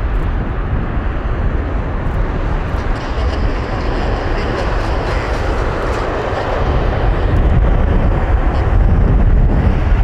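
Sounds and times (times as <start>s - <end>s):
jet engines rumbling at takeoff: 0.0s - 10.0s.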